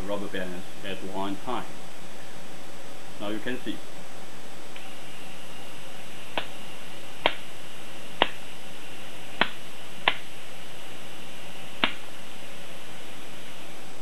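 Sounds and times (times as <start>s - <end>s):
faint electric motor whine: 0.0s - 14.0s.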